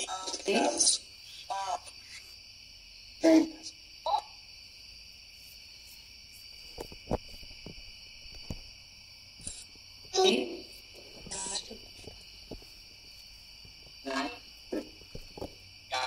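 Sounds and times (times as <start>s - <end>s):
crickets trilling: 0.0s - 16.0s
short pitched insect calls: 0.0s - 16.0s.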